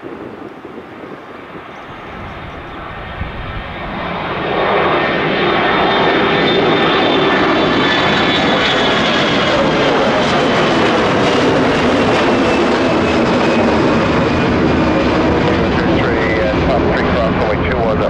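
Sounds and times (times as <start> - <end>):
jet plane taking off: 0.0 - 18.0.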